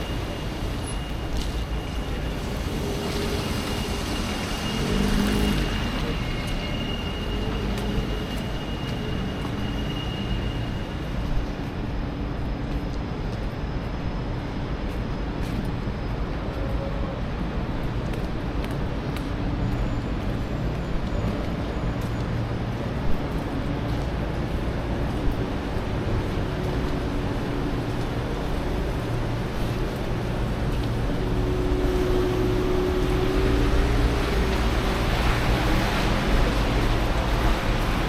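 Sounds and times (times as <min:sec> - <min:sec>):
vehicle rumbling in motion: 0:00.0 - 0:38.0.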